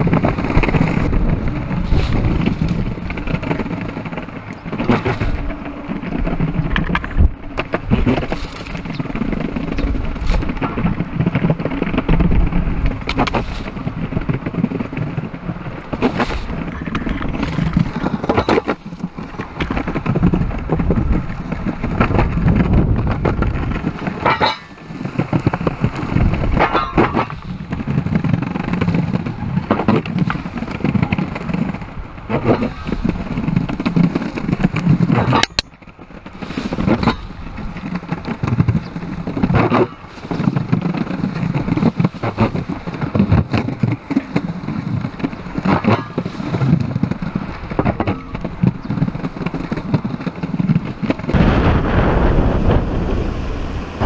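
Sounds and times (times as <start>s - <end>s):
longboard wheels rolling on paving: 0.0s - 54.0s.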